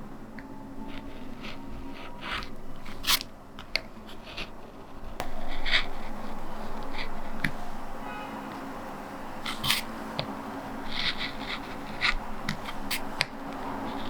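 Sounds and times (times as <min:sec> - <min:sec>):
lino cutter scraping linoleum: 0:00.0 - 0:14.0.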